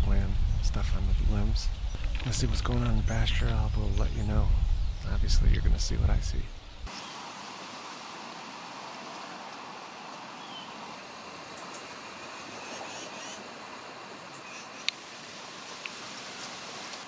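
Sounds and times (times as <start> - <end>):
wind through trees: 0.0 - 17.0.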